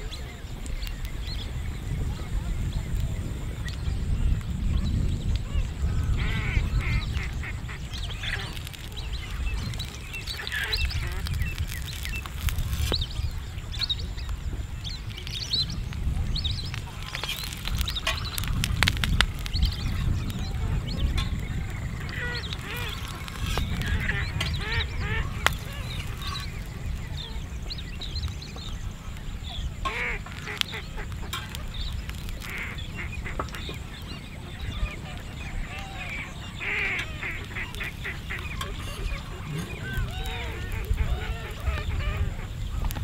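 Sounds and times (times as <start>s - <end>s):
birds calling: 0.0s - 43.0s.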